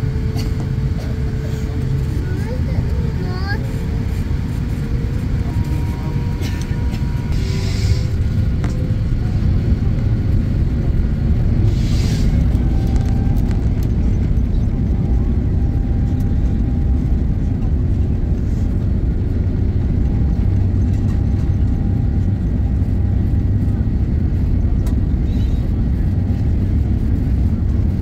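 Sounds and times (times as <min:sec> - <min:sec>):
jet engine and wheels rumble: 0:00.0 - 0:28.0.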